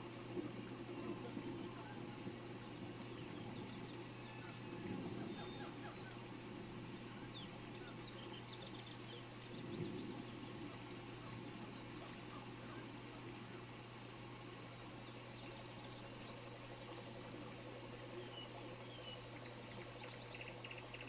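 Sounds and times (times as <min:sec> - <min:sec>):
rain hiss: 0:00.0 - 0:21.0.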